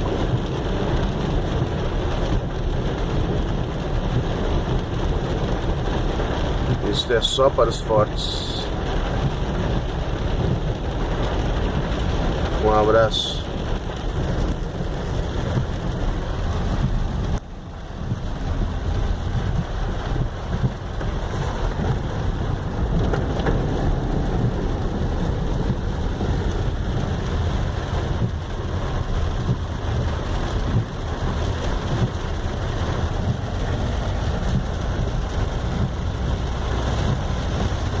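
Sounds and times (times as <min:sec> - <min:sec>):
deep continuous rumble: 0:00.0 - 0:38.0
heavy rain pouring: 0:00.0 - 0:38.0.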